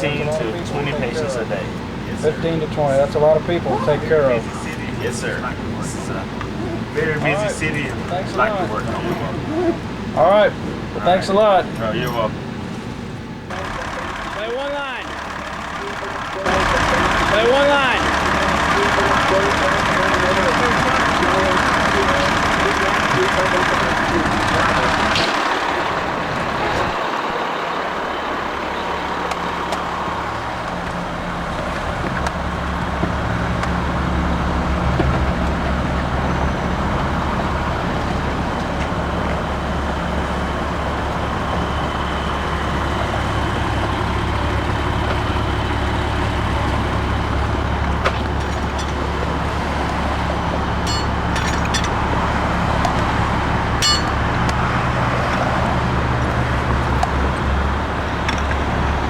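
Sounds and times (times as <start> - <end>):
fire engine motor humming: 0.0 - 59.0.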